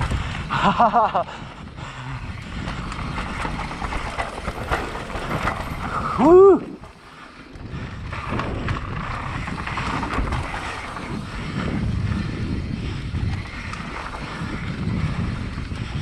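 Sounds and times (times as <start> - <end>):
bike rattling and knocking: 0.0 - 16.0
wind buffeting microphone: 0.0 - 16.0
tyres rolling over dirt: 0.5 - 16.0.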